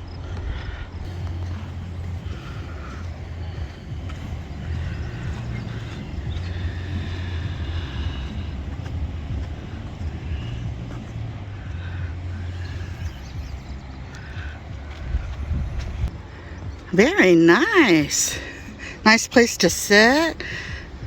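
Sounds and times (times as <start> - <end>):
wind rumble on microphone: 0.0 - 17.0
faint higher shore sounds: 1.1 - 21.0.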